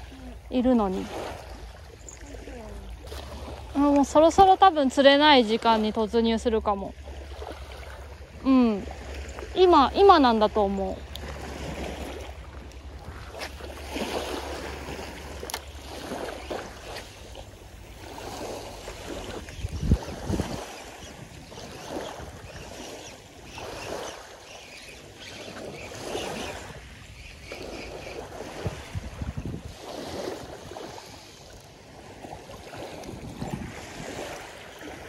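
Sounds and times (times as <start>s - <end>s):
wind rumbling on microphone: 0.0s - 24.3s, 25.1s - 35.0s
small waves washing on beach: 0.0s - 35.0s.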